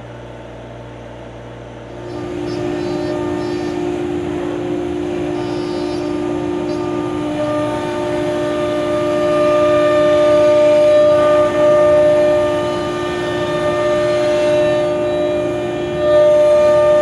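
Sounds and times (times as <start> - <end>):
router spindle whining: 1.4 - 17.0
higher tone: 1.9 - 17.0.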